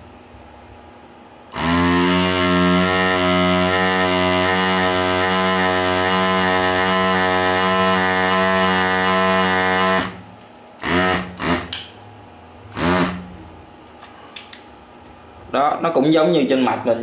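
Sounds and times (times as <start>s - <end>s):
desoldering pump buzzing: 1.4s - 15.5s.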